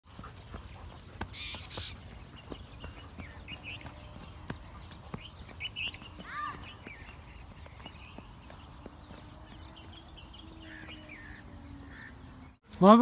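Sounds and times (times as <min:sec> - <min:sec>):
footsteps and paws on dirt: 0:00.0 - 0:12.1
small birds chirping: 0:00.1 - 0:13.0
rising and falling bird call: 0:01.2 - 0:12.6.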